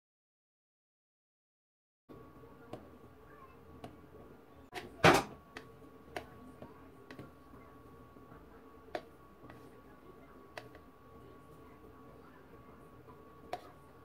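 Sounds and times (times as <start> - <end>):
faint steady hum: 2.1 - 14.0.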